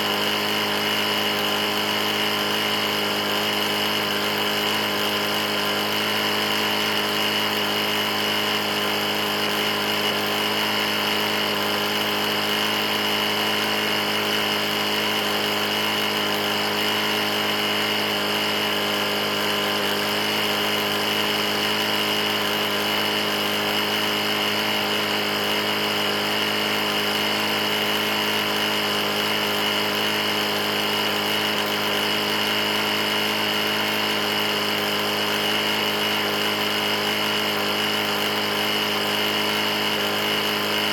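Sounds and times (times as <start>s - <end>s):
lawn mower engine knocking: 0.0s - 40.9s.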